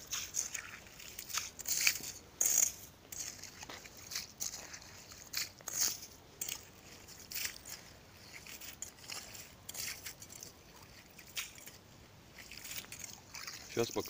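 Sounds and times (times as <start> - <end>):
metal skimmer scraping ice chips: 0.0 - 11.7, 12.4 - 14.0.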